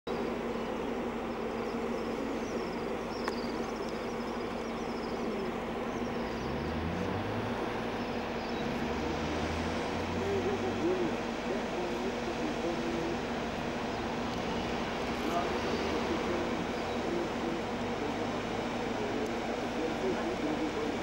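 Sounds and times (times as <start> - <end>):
low engine hum: 0.1 - 21.0
small birds chirping: 0.1 - 21.0
traffic rumble: 0.1 - 21.0.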